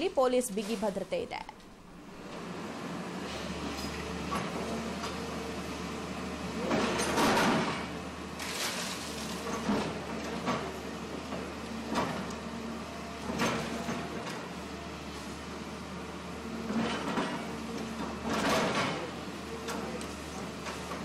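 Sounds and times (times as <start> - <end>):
excavator running: 1.9 - 21.0.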